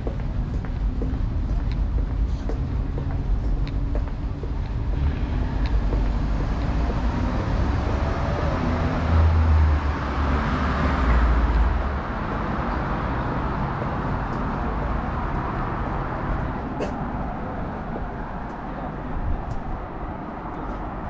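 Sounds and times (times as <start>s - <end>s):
traffic rumble: 0.0s - 21.0s
vehicle passing: 2.6s - 21.0s.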